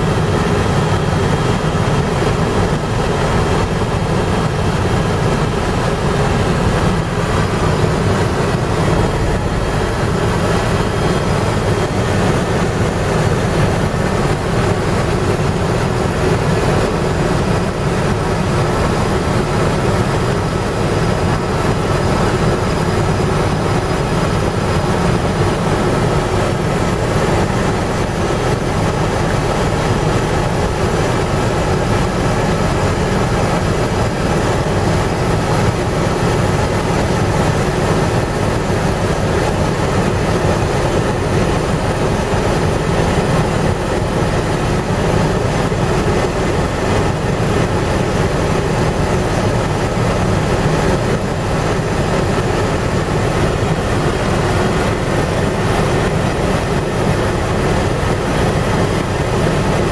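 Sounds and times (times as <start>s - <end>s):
helicopter rotor and engine: 0.0s - 59.9s.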